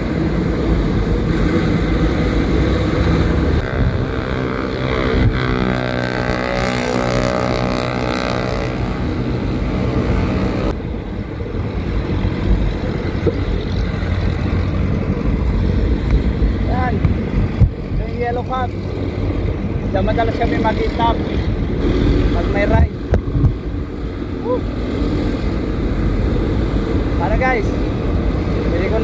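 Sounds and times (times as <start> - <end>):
passing vehicle engine drone: 0.0 - 29.0
road traffic: 0.0 - 29.0
wind rumbling on microphone: 0.0 - 29.0.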